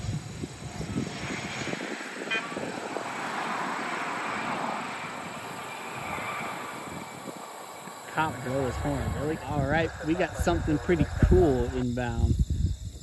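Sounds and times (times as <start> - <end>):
aircraft noise rushing: 0.0 - 12.0.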